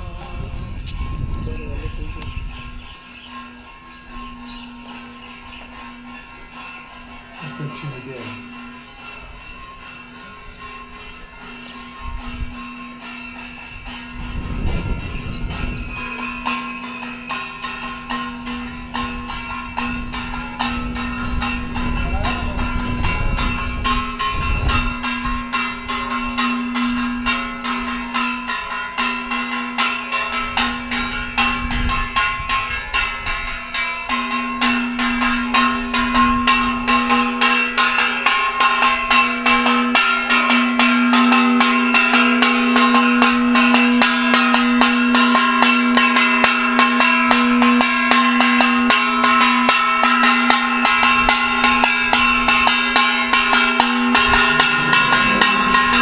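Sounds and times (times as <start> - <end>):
metal bell ringing fast: 0.0 - 56.0.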